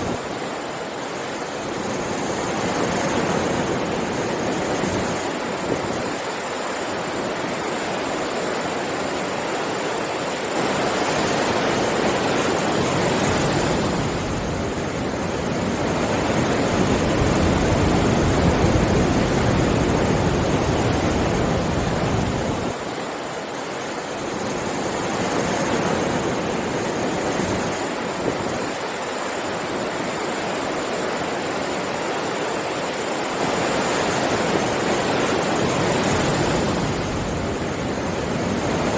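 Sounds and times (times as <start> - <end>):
sea waves on a shore: 0.0 - 38.9.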